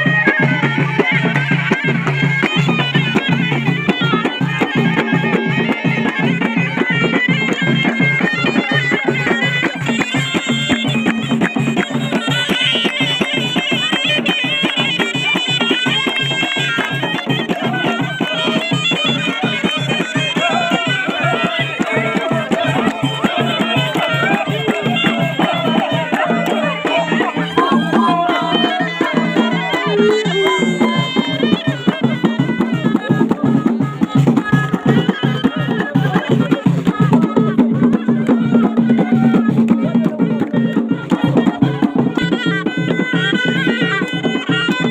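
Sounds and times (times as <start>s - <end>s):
drum beat: 0.0s - 44.9s
shawm playing folk melody: 0.0s - 44.9s.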